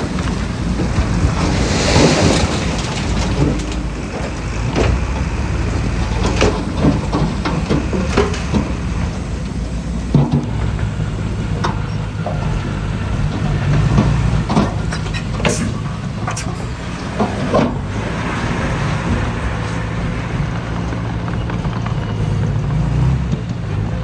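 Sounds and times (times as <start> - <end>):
metallic clanks and knocks: 0.0 - 23.8
diesel engine running under load: 0.0 - 24.0.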